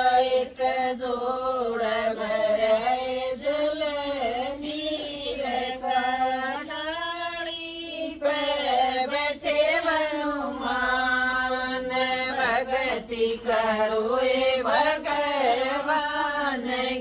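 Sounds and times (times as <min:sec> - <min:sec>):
women singing devotional song: 0:00.0 - 0:17.0.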